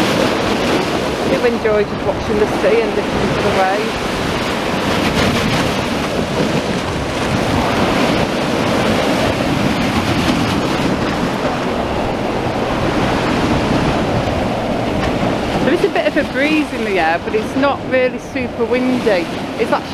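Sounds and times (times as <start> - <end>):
sea waves breaking: 0.0 - 19.9
wind buffeting microphone: 0.0 - 19.9.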